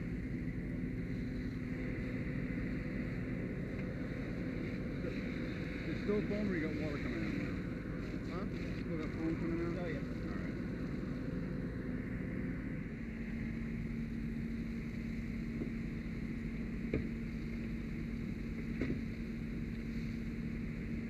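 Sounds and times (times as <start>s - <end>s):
pump humming: 0.0s - 21.0s.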